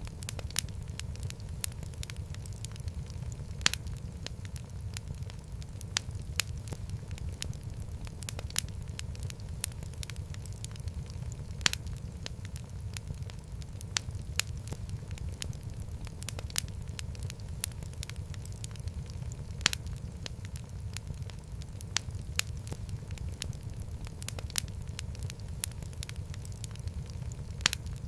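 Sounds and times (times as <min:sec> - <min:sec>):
fire snaps and pops: 0:00.0 - 0:28.0
flame rumbling: 0:00.0 - 0:28.0.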